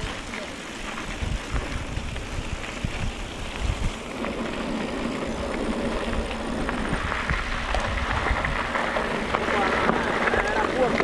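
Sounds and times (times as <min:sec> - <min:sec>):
bicycle tyres rolling on dirt: 0:00.0 - 0:11.0
wind rumbling on microphone: 0:00.0 - 0:11.0.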